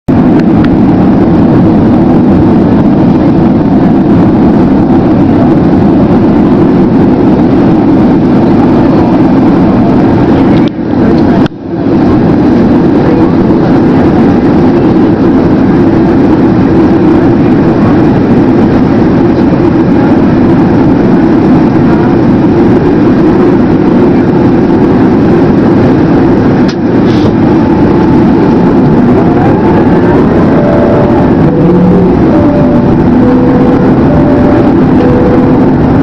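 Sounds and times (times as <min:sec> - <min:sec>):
jet engines and rushing air: 0:00.0 - 0:36.0.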